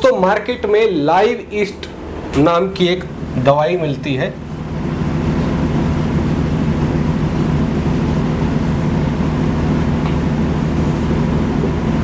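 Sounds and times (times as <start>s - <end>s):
low droning hum with hiss: 0.0s - 12.0s.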